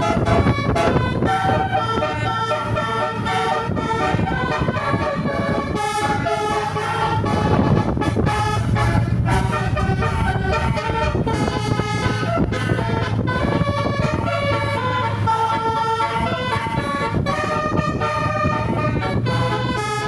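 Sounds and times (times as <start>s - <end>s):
bus engine running: 0.0s - 20.0s
bus multi-tone horn tune: 0.0s - 20.0s.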